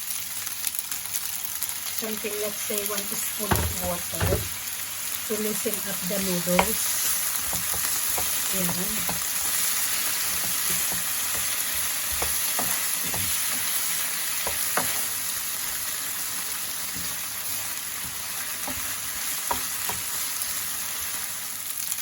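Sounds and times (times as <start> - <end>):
noodles sizzling in pan: 0.0 - 22.0.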